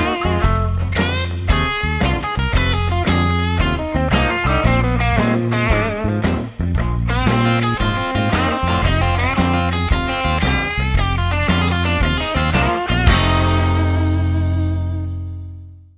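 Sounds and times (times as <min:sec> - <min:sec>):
rock music with bending guitar: 0:00.0 - 0:15.7.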